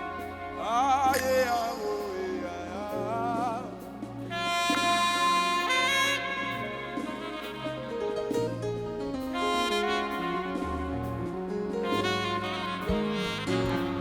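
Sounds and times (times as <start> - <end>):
worship band music: 0.0 - 14.0.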